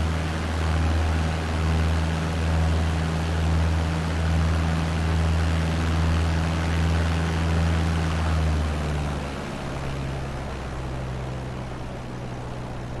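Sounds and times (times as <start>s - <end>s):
light aircraft engine droning: 0.0s - 13.0s.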